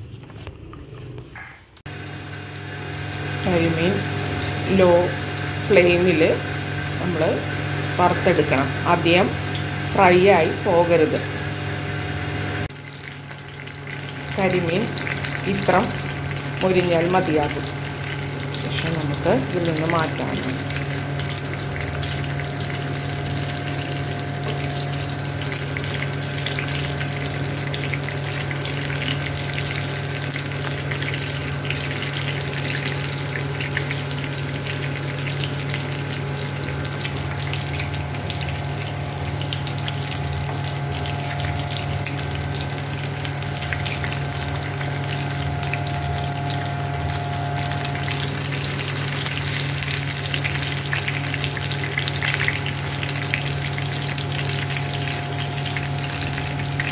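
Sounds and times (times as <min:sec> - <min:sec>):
constant low hum: 0:00.0 - 0:56.9
fish sizzling in oil: 0:01.9 - 0:56.9.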